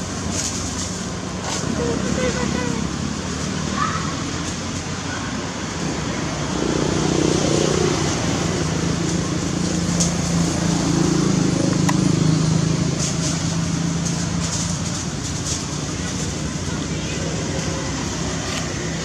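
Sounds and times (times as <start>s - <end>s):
outdoor traffic noise: 0.0s - 19.0s
vehicle engine humming: 0.0s - 19.0s.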